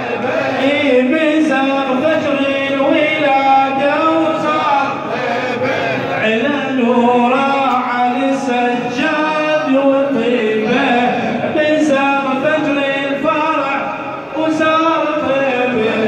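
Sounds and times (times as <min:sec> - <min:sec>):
man chanting with gliding notes: 0:00.0 - 0:16.0.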